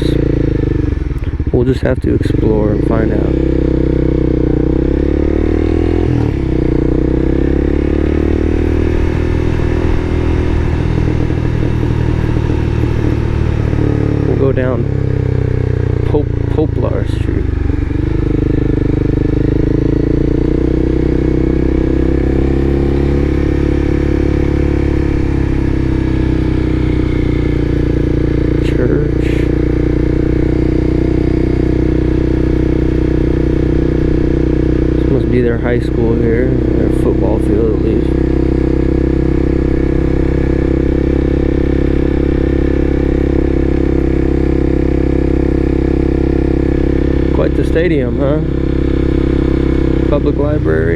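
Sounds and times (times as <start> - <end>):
road noise: 0.0 - 50.9
vehicle engine humming: 0.0 - 50.9.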